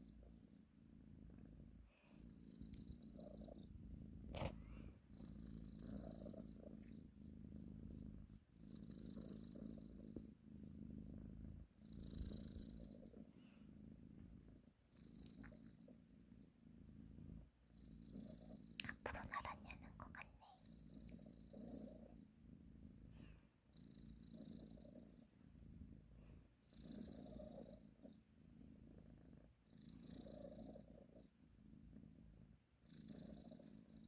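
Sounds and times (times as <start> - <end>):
cat purring softly: 0.0 - 34.0
faint breath hiss: 0.0 - 34.0.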